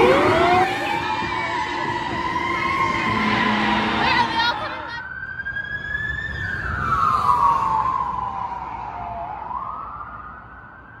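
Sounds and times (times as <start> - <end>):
emergency vehicle siren wailing: 0.0 - 11.0.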